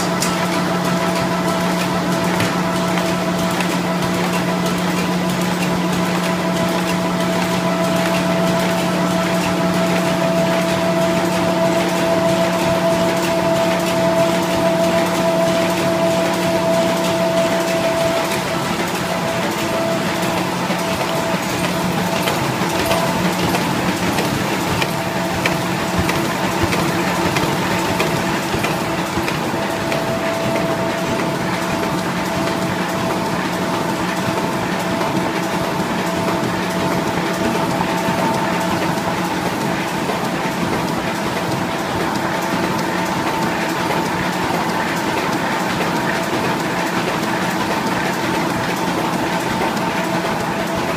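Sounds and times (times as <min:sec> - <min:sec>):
constant machine whine: 0:00.0 - 0:50.9
machine mechanical hum: 0:00.0 - 0:50.9.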